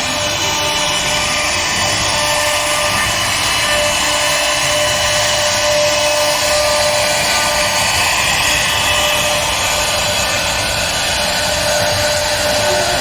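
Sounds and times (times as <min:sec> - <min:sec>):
wood router cutting wood: 0:00.0 - 0:13.0.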